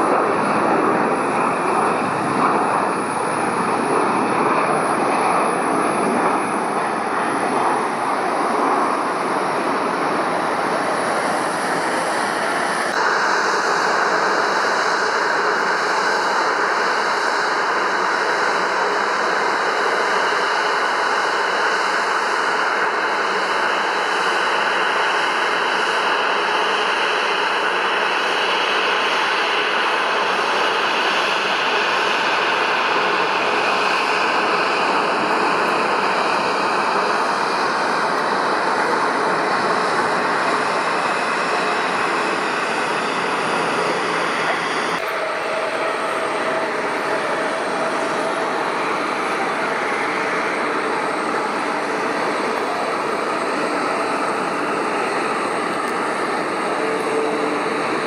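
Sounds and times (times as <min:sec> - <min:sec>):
faint whining tones: 0:00.0 - 0:58.0
jet engines rushing: 0:00.0 - 0:58.0.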